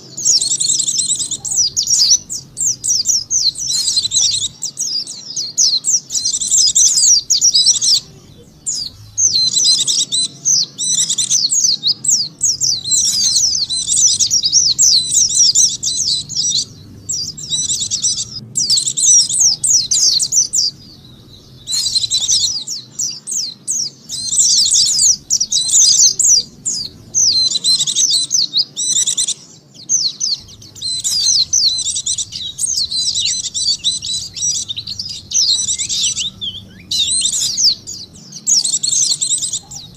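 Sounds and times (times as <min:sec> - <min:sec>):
bird fast high twittering: 0:00.0 - 0:39.9.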